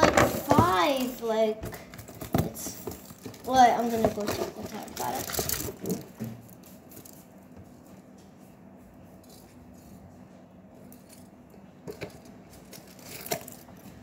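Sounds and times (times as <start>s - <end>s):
faint handling noises: 0.0s - 14.0s.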